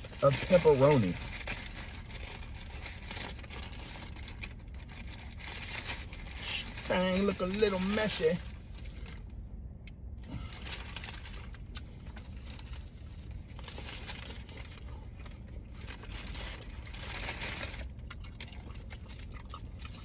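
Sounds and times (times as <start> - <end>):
paper wrapper crinkling: 0.0 - 9.3, 10.2 - 20.0.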